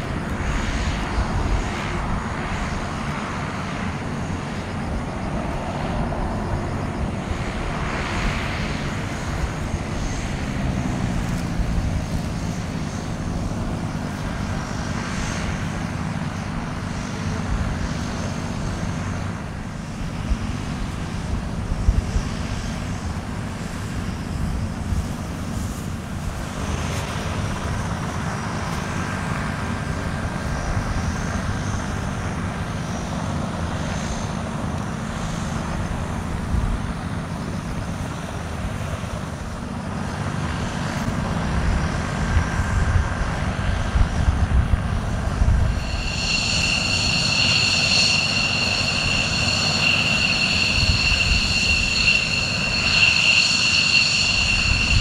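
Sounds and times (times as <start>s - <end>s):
high turbine whine: 0.0s - 55.0s
propeller drone: 0.0s - 55.0s.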